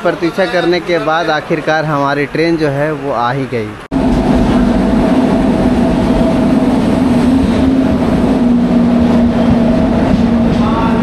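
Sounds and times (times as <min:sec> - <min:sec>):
locomotive drone: 0:00.0 - 0:11.0.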